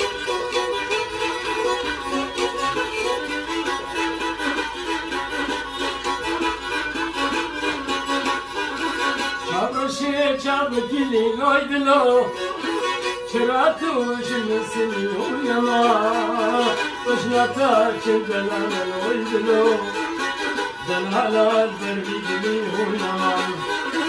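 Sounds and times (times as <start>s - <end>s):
bowed fiddle dance tune: 0.0s - 24.0s.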